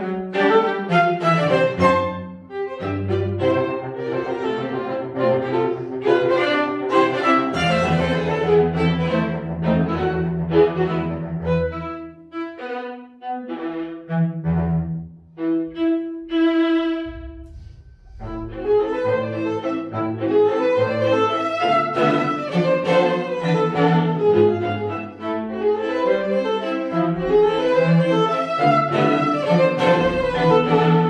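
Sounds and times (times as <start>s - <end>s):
string quartet playing: 0.0s - 31.0s.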